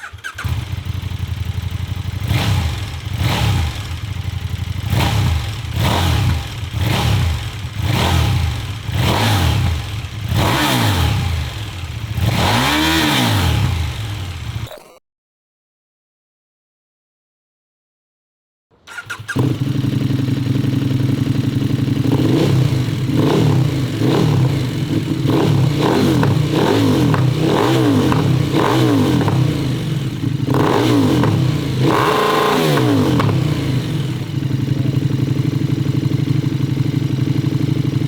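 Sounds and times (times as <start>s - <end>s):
motorcycle engine idling and revving: 0.0s - 14.7s, 18.9s - 38.0s.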